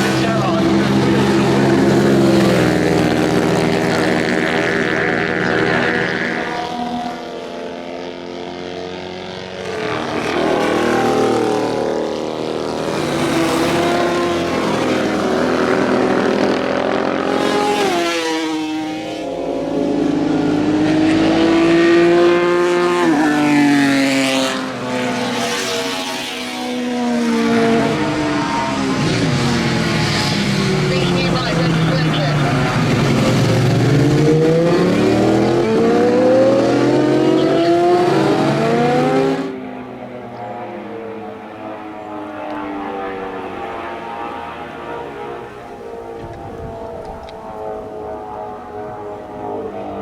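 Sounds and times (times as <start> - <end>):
motorcycles revving past: 0.0 - 50.0.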